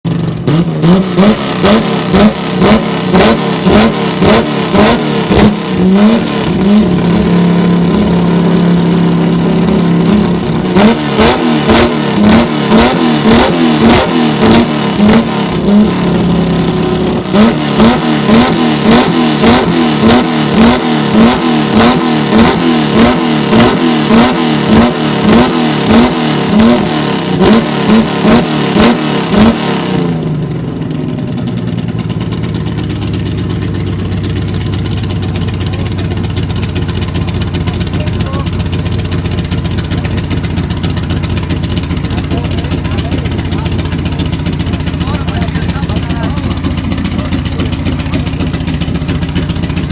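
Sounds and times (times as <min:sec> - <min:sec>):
car engine revving: 0:00.1 - 0:49.9
loud exhaust rumble: 0:00.1 - 0:49.9.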